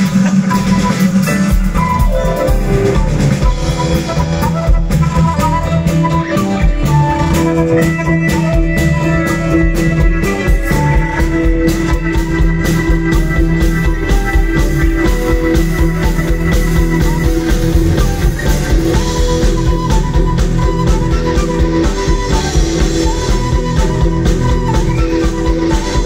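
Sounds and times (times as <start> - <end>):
flute melody: 0.0 - 26.0
live rock band playing: 0.0 - 26.0.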